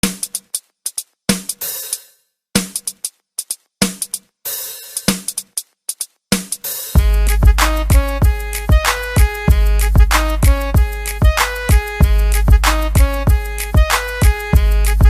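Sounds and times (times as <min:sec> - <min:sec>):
drum-machine beat: 0:00.0 - 0:02.0, 0:02.6 - 0:15.0.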